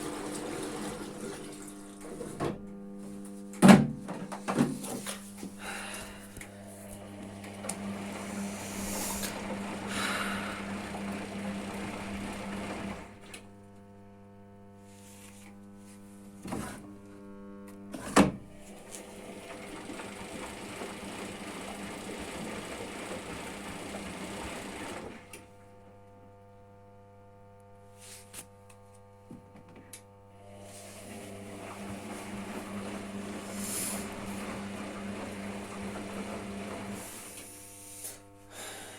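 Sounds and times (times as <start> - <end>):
washing machine motor humming: 0.0 - 14.6, 15.3 - 26.4, 29.6 - 38.9.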